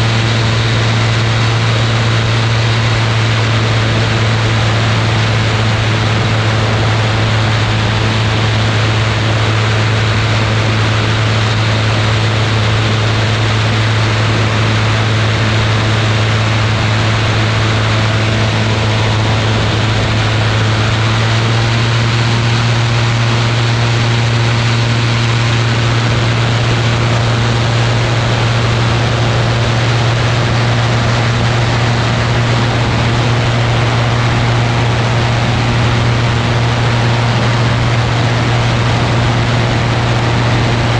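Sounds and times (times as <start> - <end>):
aircraft engine and propeller droning: 0.0 - 40.9
wind rush over microphone: 0.0 - 40.9.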